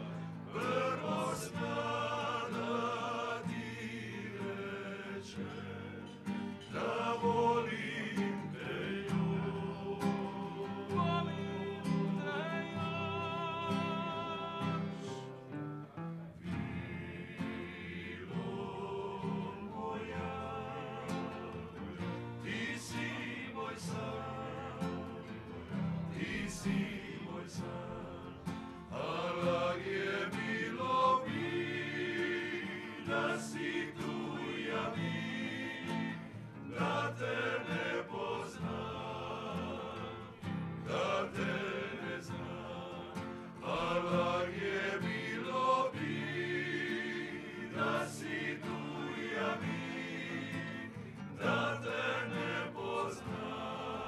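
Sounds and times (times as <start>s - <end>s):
men singing in close harmony: 0.0s - 15.6s, 16.4s - 54.0s
strummed acoustic guitars: 0.0s - 54.0s.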